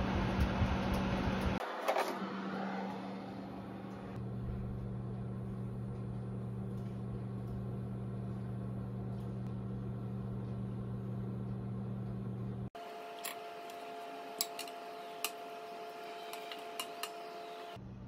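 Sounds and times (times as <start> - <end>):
kitchen fan humming: 0.0 - 18.0.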